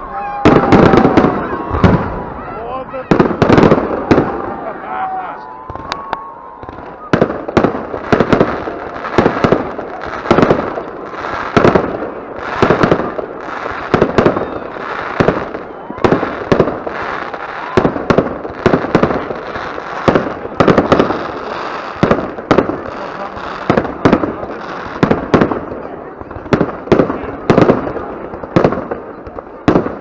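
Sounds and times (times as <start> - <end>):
firework bangs: 0.0 - 30.0
fireworks crackling: 0.0 - 30.0.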